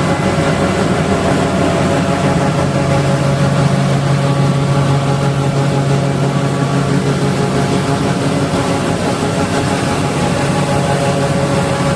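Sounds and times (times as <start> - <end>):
combine harvester running: 0.0 - 11.9.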